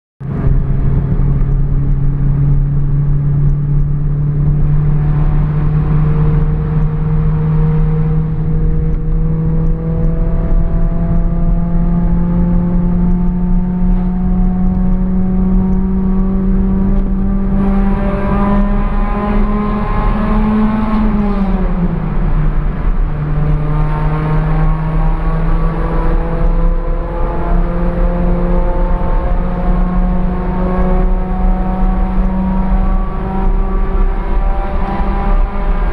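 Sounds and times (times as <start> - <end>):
car engine running: 0.2 - 35.9.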